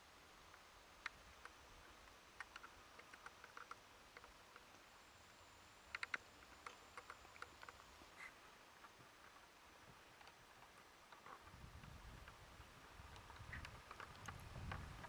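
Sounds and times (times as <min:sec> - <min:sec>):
faint irregular clicks: 0:00.3 - 0:15.0.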